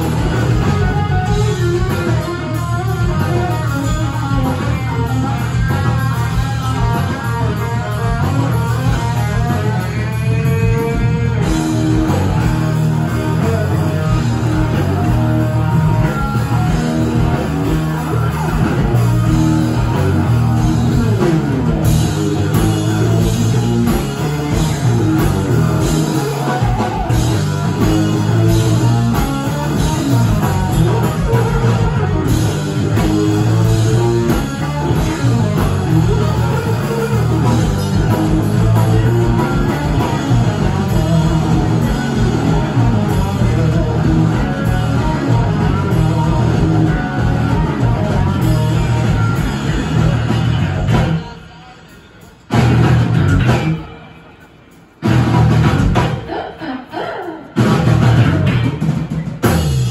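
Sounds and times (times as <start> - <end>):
electric bass: 0.0 - 51.3, 52.5 - 54.0, 55.0 - 56.2, 57.6 - 59.9
drum kit: 0.0 - 59.9
electric guitar with bent notes: 0.0 - 59.9.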